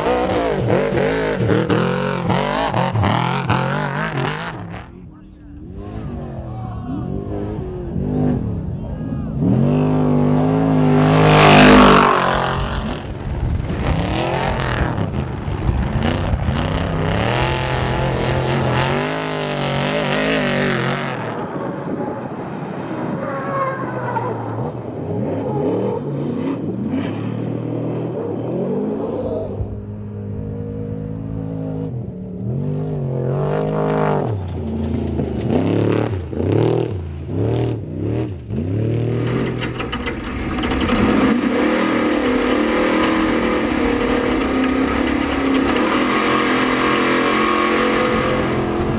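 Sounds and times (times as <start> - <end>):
race truck engines revving: 0.0 - 48.9.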